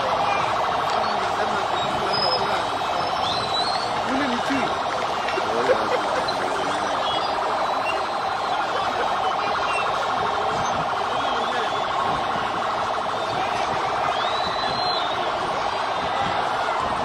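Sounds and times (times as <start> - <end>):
crowd noise: 0.0 - 17.0
vehicle siren: 0.0 - 17.0.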